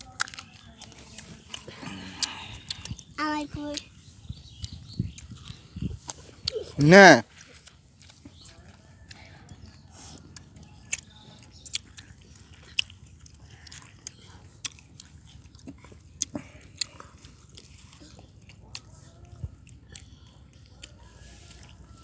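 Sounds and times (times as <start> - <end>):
crunchy fruit bites and chewing: 0.0 - 22.0.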